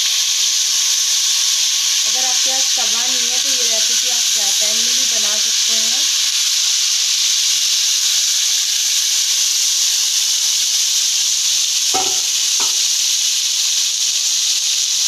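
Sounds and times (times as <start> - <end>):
liver sizzling in hot oil: 0.0 - 15.0.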